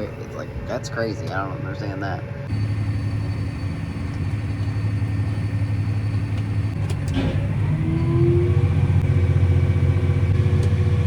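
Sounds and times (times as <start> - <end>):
engine whine: 0.0 - 11.0
tractor diesel engine running: 0.0 - 11.0.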